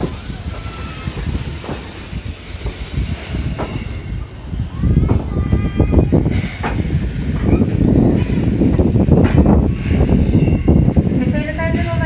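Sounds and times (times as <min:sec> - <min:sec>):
locomotive running gear rumbling: 0:00.0 - 0:12.0
steam hissing: 0:00.0 - 0:12.0.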